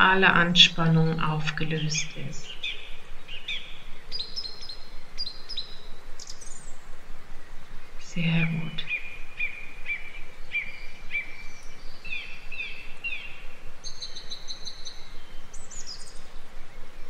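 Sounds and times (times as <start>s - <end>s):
soft background hiss: 0.0s - 17.0s
songbirds chirping: 0.0s - 17.0s.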